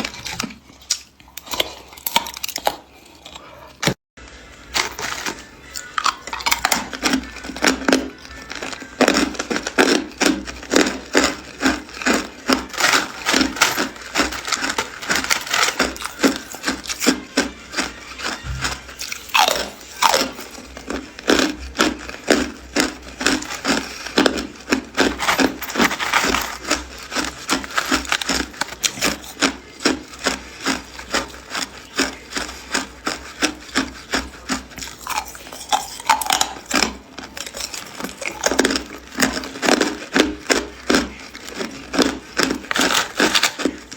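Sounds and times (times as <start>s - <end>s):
ice being chewed: 0.0s - 4.0s, 4.6s - 43.9s.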